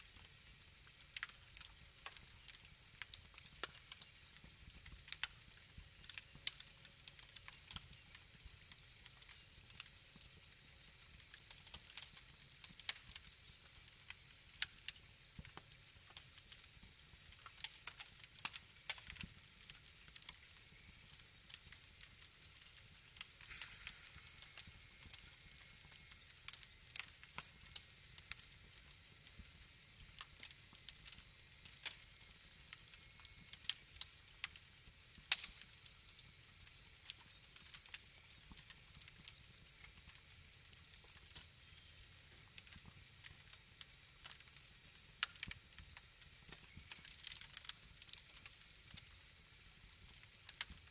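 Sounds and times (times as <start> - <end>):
fire hissing: 0.0 - 50.9
wood fire crackling: 0.0 - 50.9.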